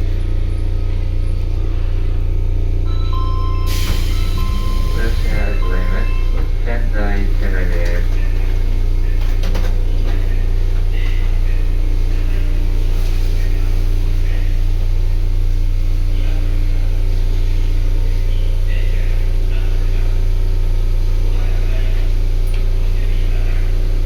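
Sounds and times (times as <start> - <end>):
constant hum: 0.0 - 24.0
subway train deep rumble: 0.0 - 24.0.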